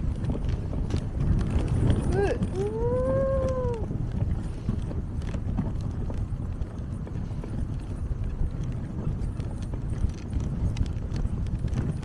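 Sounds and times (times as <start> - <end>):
light ticks from dogs and sled: 0.0 - 12.0
sled runners rumbling on snow: 0.0 - 12.0.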